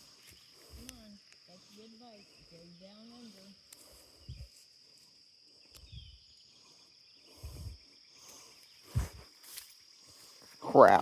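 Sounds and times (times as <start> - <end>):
high-pitched insect chirring: 0.0 - 11.0.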